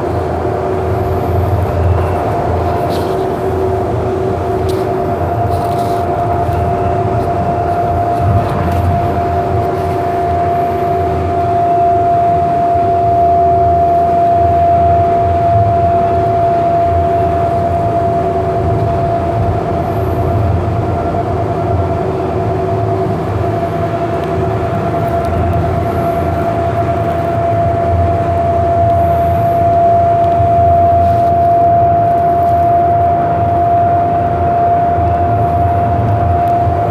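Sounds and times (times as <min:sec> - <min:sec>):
constant whine: 0:00.0 - 0:36.9
train wheels rumbling on track: 0:00.0 - 0:36.9.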